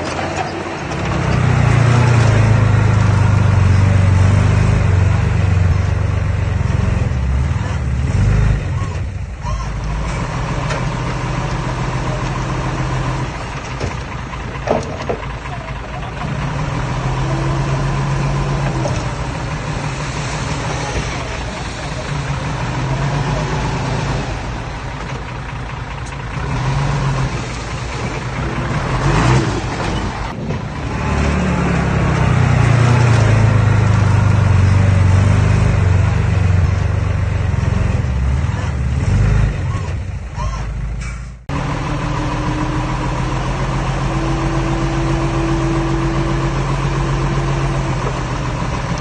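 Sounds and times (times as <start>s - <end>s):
heavy machinery diesel engine running: 0.0s - 49.0s.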